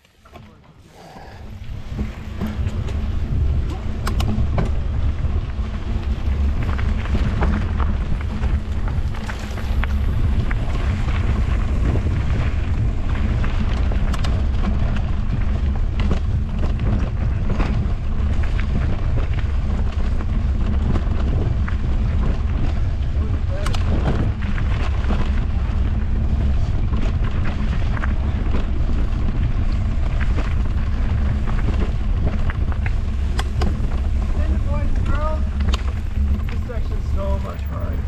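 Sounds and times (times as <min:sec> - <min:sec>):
wind buffeting microphone: 0:01.2 - 0:38.0
rattles and clicks: 0:01.5 - 0:38.0.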